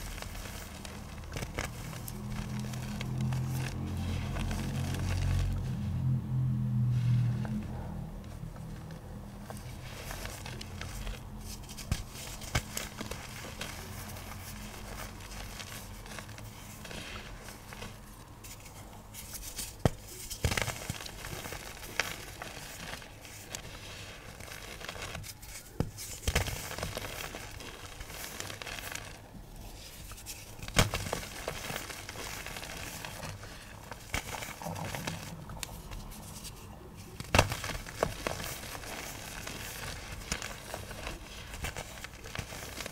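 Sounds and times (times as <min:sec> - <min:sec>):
pigment chunks being crushed: 0:00.0 - 0:05.6, 0:09.4 - 0:42.9.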